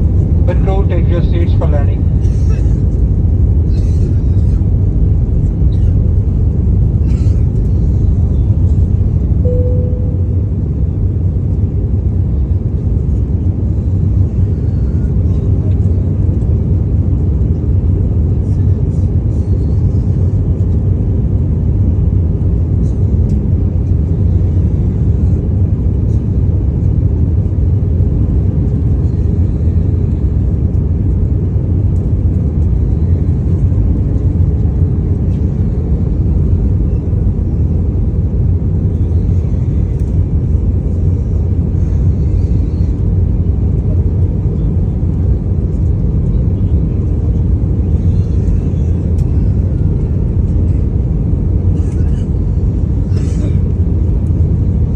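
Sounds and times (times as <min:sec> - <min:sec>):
airliner cabin engine rumble: 0:00.0 - 0:54.9.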